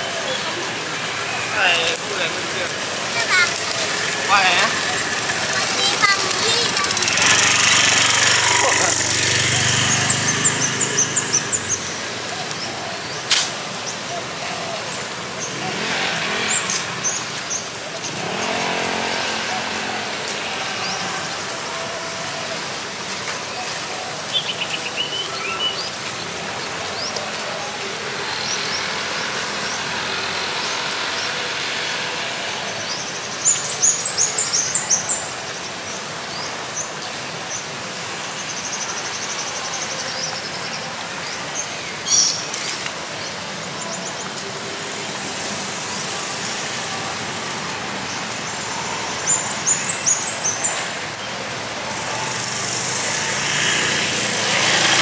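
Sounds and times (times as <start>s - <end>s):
traffic hum: 0.0s - 55.0s.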